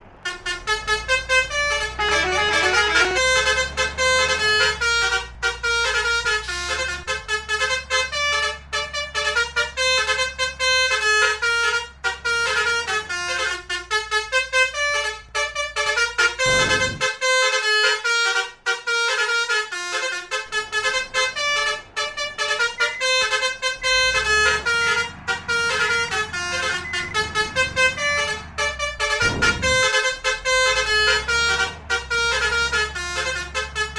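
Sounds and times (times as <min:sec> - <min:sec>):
bus engines running: 0:00.0 - 0:33.9
multi-tone bus horns playing melody: 0:00.0 - 0:33.9.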